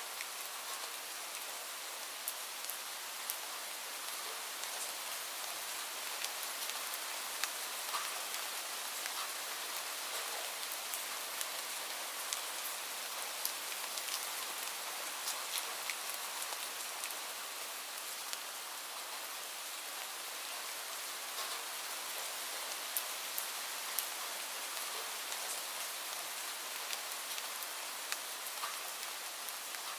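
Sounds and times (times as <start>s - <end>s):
light rain hissing: 0.0s - 29.9s.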